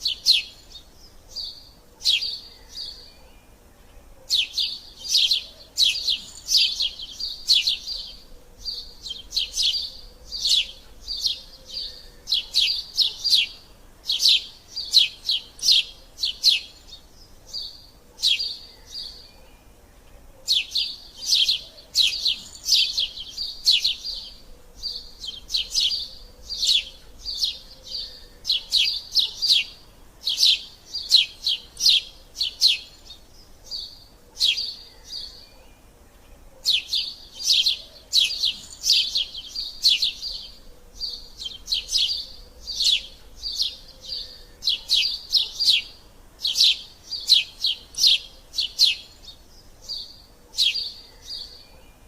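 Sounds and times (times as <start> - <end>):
sparrows chirping: 0.0 - 52.0.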